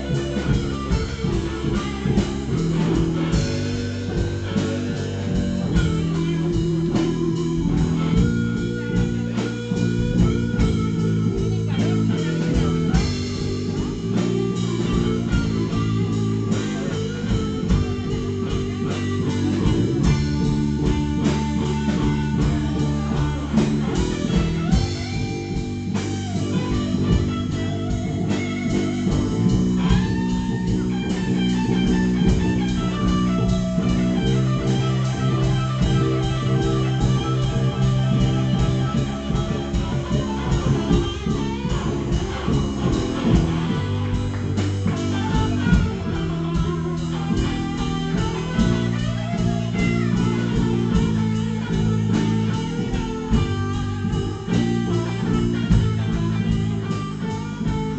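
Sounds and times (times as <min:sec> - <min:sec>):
instrumental guitar music: 0:00.0 - 0:57.9.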